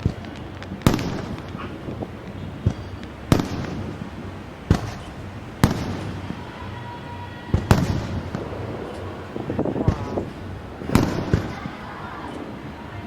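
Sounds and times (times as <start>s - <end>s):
distant fireworks bangs with echo: 0.0s - 13.0s.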